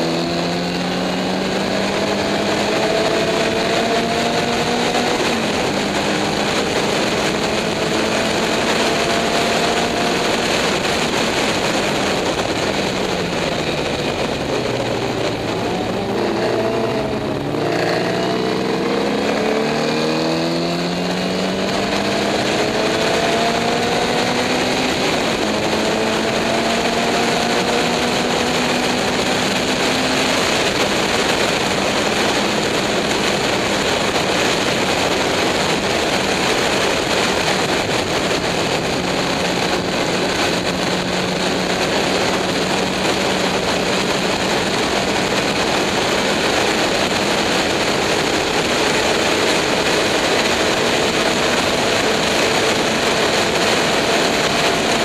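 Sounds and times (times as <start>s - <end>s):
race car engine at full throttle: 0.0s - 55.0s
wind rushing: 0.0s - 55.0s.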